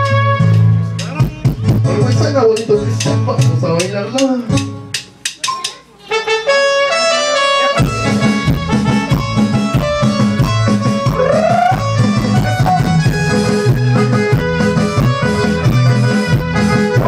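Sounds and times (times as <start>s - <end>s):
bass and drums beat: 0.0s - 5.8s, 7.8s - 17.0s
electronic keyboard notes: 0.0s - 17.0s.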